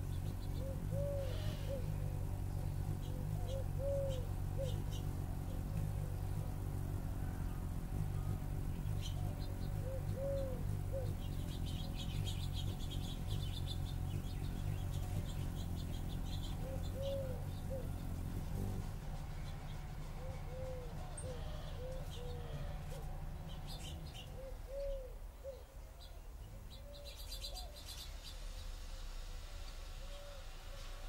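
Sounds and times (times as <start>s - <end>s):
dove cooing: 0.0s - 27.8s
small songbirds chirping: 0.0s - 30.9s
steady low hum: 0.0s - 31.0s.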